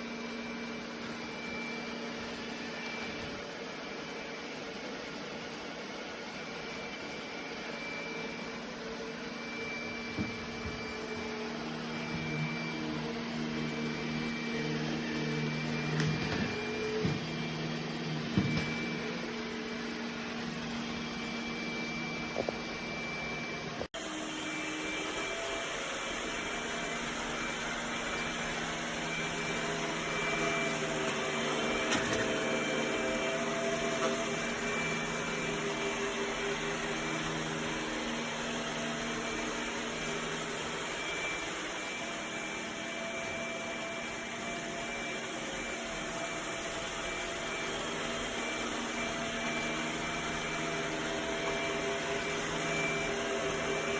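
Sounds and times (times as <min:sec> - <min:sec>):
robot vacuum motor hum: 0:00.0 - 0:53.9.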